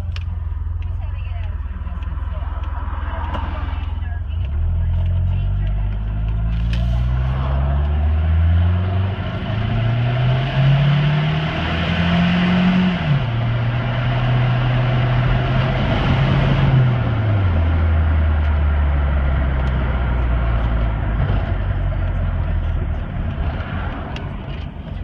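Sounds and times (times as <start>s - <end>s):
pickup engine accelerating: 0.0s - 25.0s.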